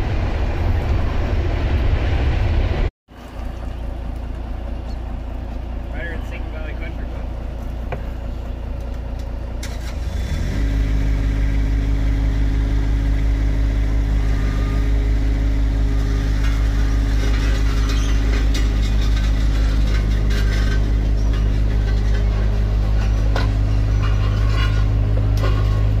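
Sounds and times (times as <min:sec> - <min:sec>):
paving machine engine running: 0:03.1 - 0:26.0.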